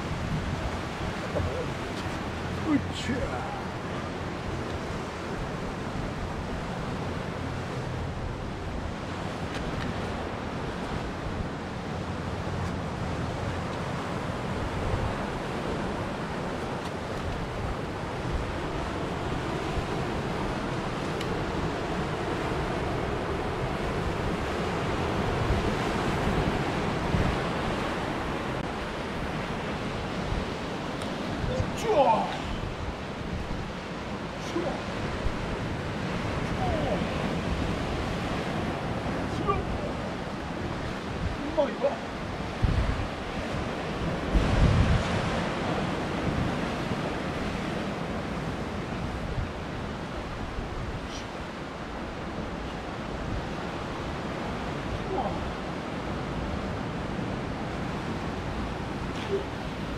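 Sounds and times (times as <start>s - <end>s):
ocean waves washing over rocks: 0.0s - 59.9s
wind on microphone: 0.0s - 59.9s.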